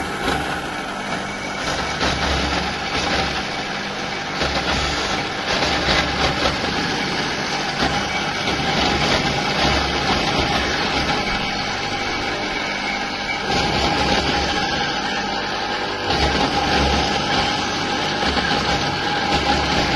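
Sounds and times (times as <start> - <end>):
machine motor whining: 0.0 - 19.9.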